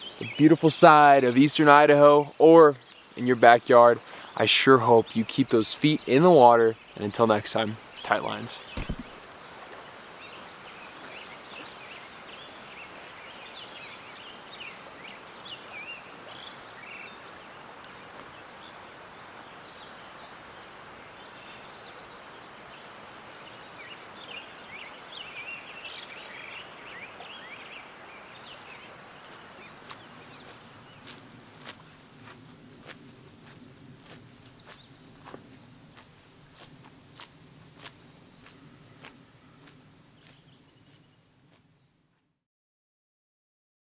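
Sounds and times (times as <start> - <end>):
small birds chirping: 0.0 - 36.1, 38.4 - 42.0.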